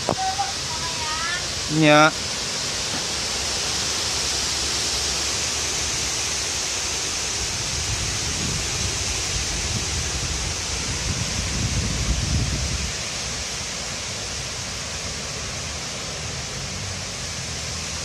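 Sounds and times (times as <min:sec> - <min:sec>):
low rumbling wind gusts: 0:00.0 - 0:18.0
wind through trees: 0:00.0 - 0:18.0.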